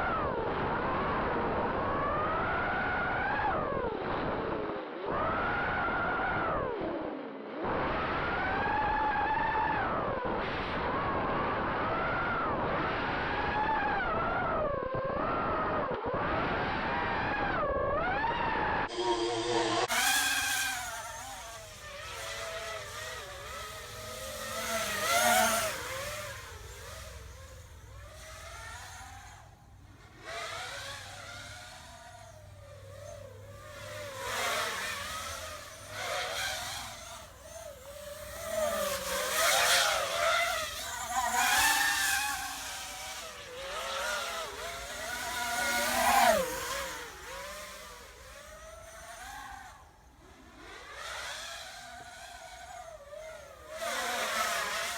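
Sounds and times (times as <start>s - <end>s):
quadcopter motors whining: 0.0s - 54.9s.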